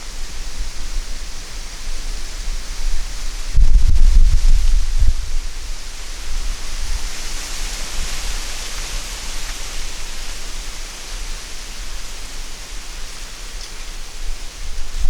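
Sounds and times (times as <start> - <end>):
wind hissing through trees: 0.0 - 15.0
wind rumble on microphone: 0.0 - 15.0.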